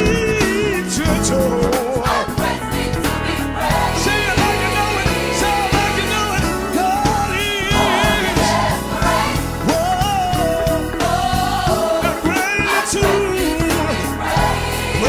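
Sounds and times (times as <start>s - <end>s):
gospel singing voices: 0.0s - 15.0s
instrumental accompaniment: 0.0s - 15.0s.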